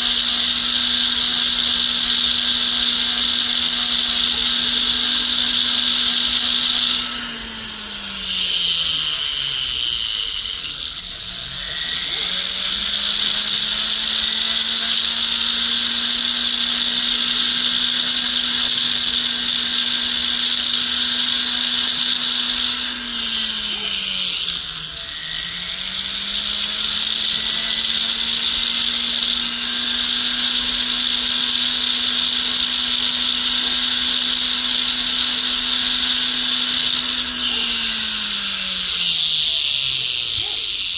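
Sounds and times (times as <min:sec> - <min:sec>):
rotary tool motor whine: 0:00.0 - 0:40.9.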